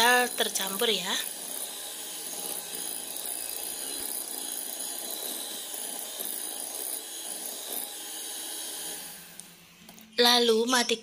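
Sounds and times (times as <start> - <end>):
electric hand mixer running: 0.0 - 10.0.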